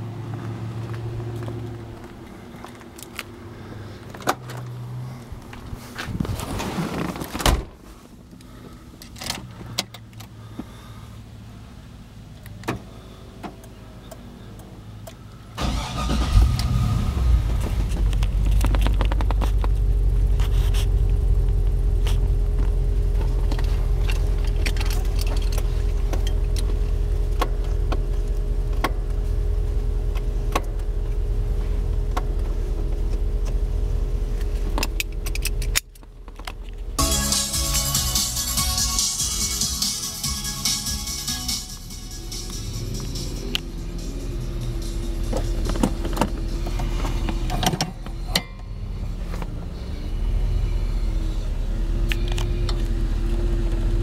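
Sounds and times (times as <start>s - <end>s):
car engine cranking and idling: 0.0s - 54.0s.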